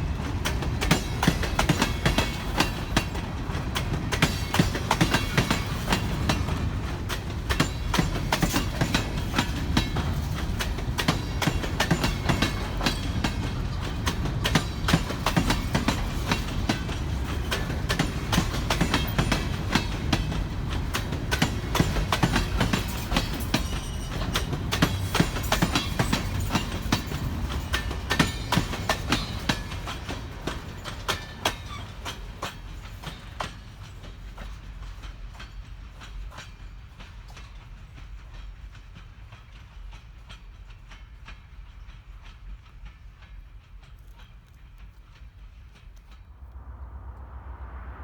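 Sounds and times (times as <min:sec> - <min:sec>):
train wheels clacking over rail joints: 0:00.0 - 0:46.3
train rumble: 0:00.0 - 0:48.0.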